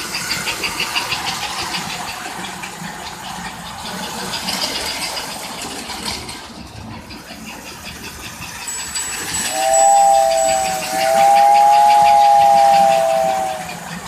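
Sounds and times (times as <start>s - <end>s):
rapid wheel clicks: 0.0s - 14.0s
toy train motor whir: 0.0s - 14.0s.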